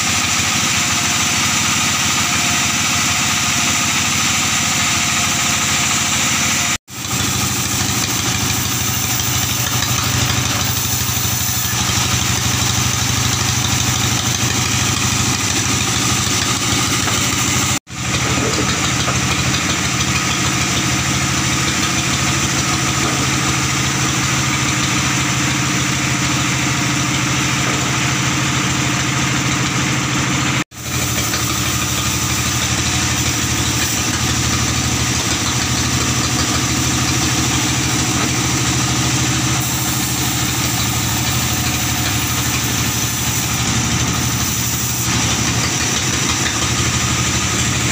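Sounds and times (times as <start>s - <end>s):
stationary engine humming: 4.8s - 47.9s.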